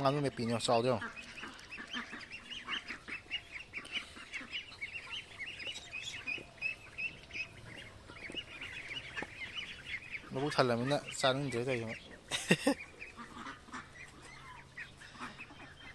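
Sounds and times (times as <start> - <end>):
ducklings peeping: 0.0 - 15.9.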